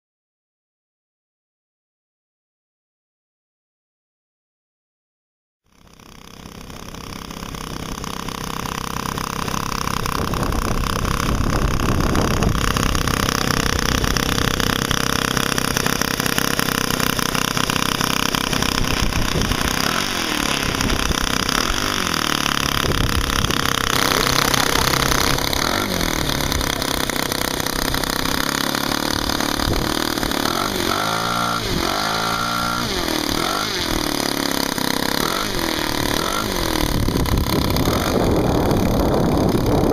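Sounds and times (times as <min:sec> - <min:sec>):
model aircraft engine running: 0:05.7 - 0:39.9.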